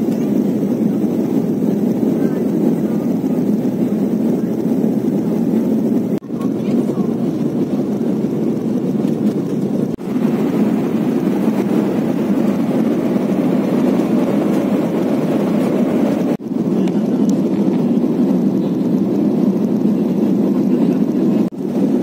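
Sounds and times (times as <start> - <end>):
airliner cabin engine hum: 0.0 - 22.0.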